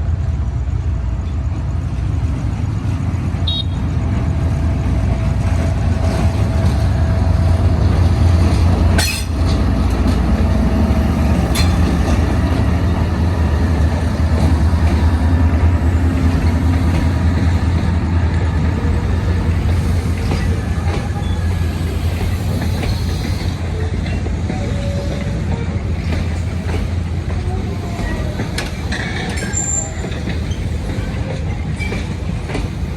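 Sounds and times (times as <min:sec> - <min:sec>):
train rumbling by: 0:00.0 - 0:32.9
sharp train clanks: 0:01.2 - 0:32.9.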